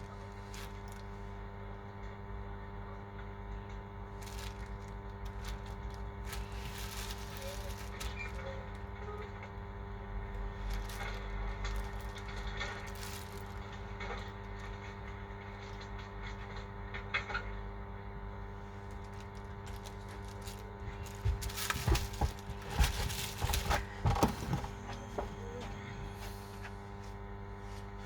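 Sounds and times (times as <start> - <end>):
electrical hum: 0.0 - 28.0.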